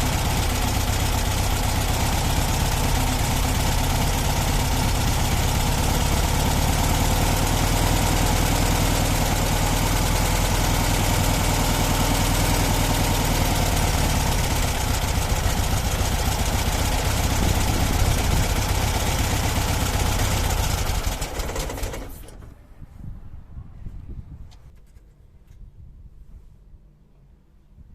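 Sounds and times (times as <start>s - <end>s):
engine idling: 0.0s - 22.6s.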